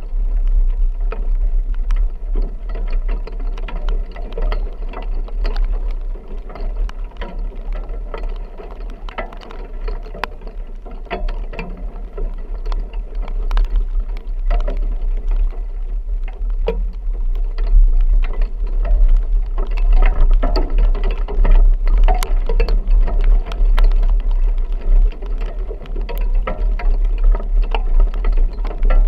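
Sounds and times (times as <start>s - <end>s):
vehicle rumbling in rain: 0.0s - 29.0s.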